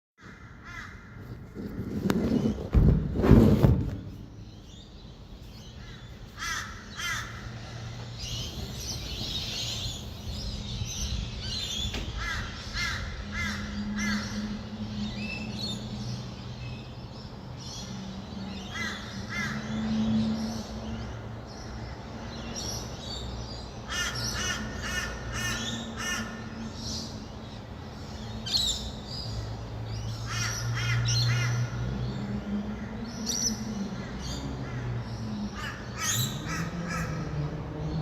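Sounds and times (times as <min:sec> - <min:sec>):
birds calling: 0:00.2 - 0:38.0
distant traffic hum: 0:00.2 - 0:38.0.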